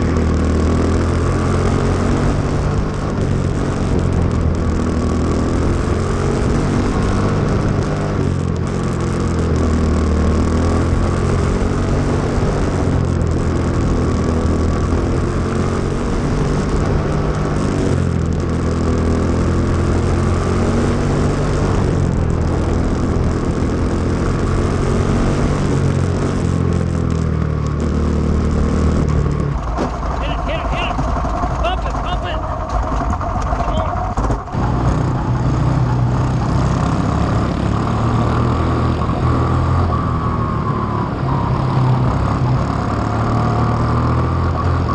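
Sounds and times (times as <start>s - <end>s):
small racing car engine running hard: 0.0s - 44.9s.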